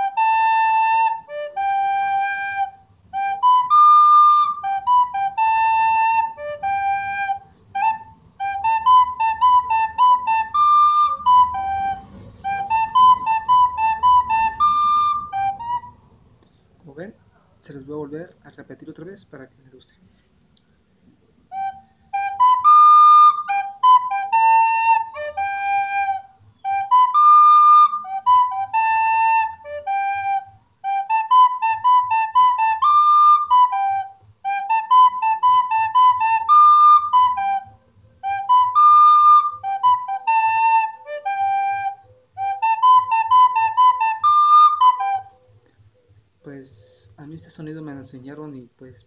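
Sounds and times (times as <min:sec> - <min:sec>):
flute melody: 0:00.0 - 0:16.3, 0:21.3 - 0:48.5.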